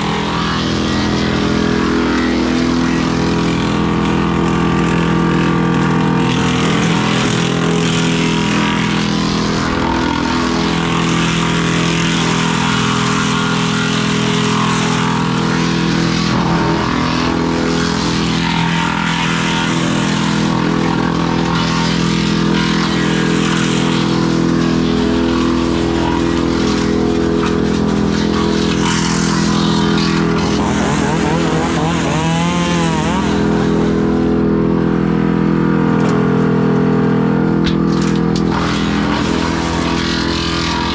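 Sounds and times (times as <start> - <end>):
tractor engine running under load: 0.0 - 40.9
wood chipper chipping brush: 0.0 - 40.9.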